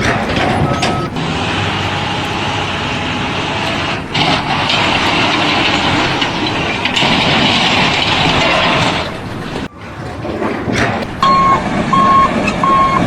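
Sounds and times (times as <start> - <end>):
heavy vehicle engines and machinery: 0.0 - 13.0.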